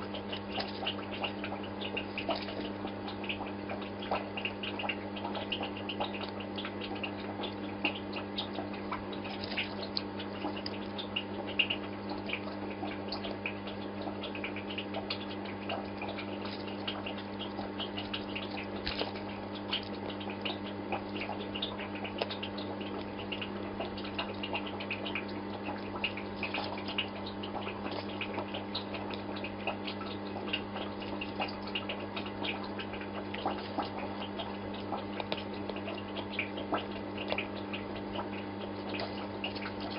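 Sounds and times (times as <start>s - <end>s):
aquarium pump humming: 0.0s - 39.9s
water bubbling and dripping: 0.0s - 39.9s.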